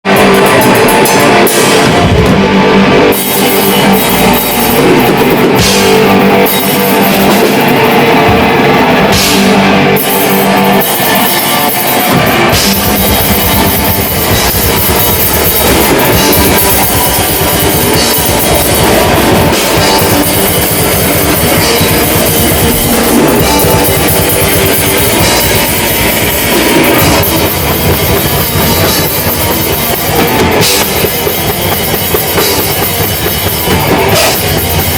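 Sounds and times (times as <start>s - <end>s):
distorted electric guitars: 0.0s - 34.9s
drum kit: 0.0s - 34.9s.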